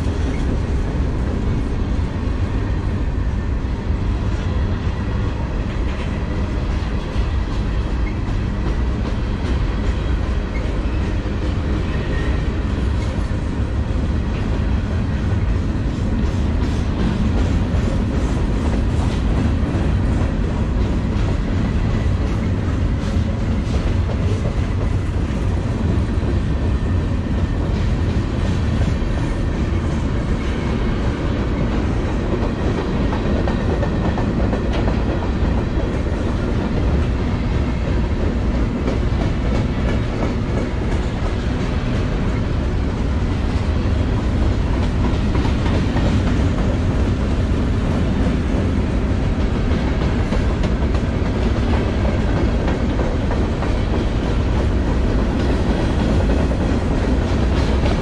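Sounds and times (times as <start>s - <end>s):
freight train low rumble: 0.0s - 58.0s
train wheels clicking over rail joints: 5.2s - 58.0s.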